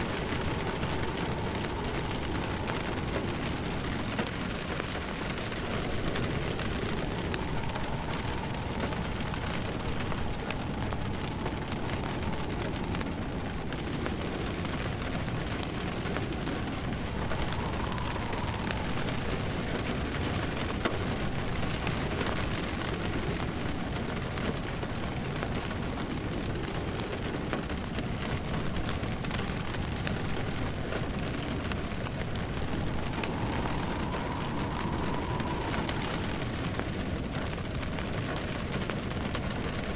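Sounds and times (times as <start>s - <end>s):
crackling wood fire: 0.0s - 39.9s
faint wind whistle: 0.0s - 39.9s
steady rain: 0.0s - 39.9s.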